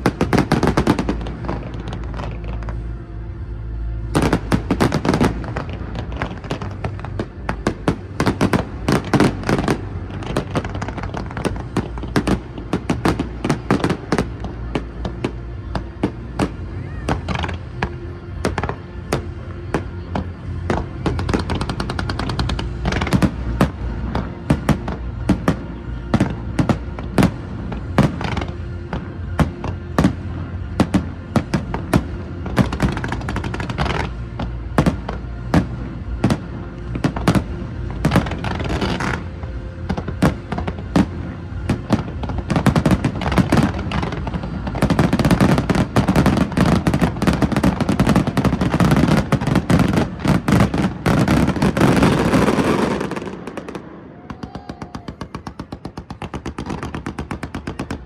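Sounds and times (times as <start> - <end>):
fireworks bangs and crackling: 0.0 - 58.0
music playing: 0.0 - 58.0.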